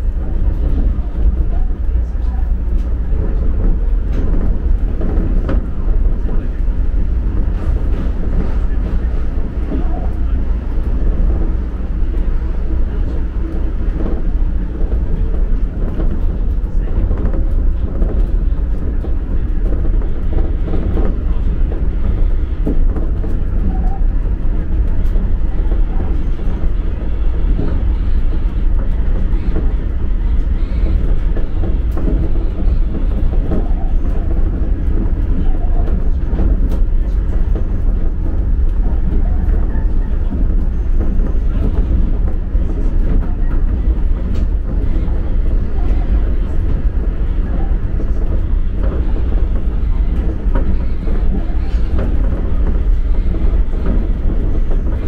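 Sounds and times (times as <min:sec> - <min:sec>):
monorail running rumble: 0:00.0 - 0:55.0.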